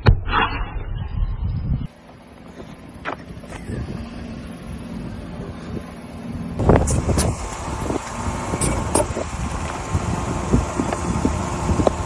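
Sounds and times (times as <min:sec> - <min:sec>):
car engine hum: 0:01.8 - 0:12.0.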